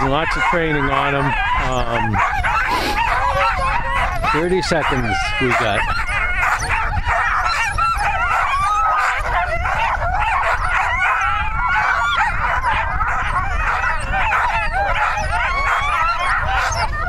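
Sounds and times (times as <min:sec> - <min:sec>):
sled dogs barking and yelping: 0:00.0 - 0:17.0.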